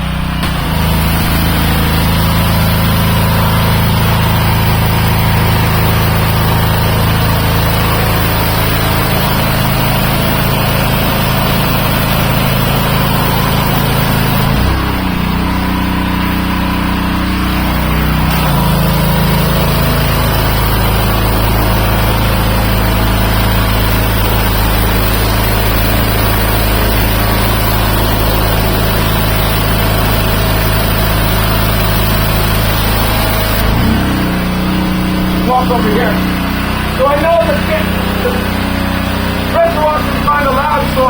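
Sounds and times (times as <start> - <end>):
pressure washer engine running: 0.0 - 41.0
water jet hissing: 0.0 - 41.0.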